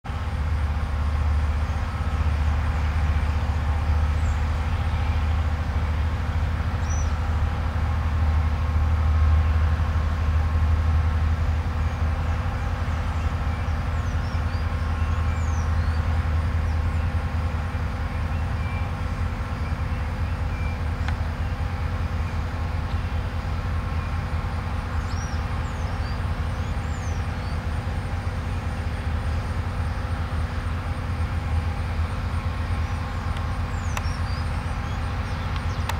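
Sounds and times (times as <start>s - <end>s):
steady low rumble: 0.0s - 35.9s
steady hums: 0.1s - 35.9s.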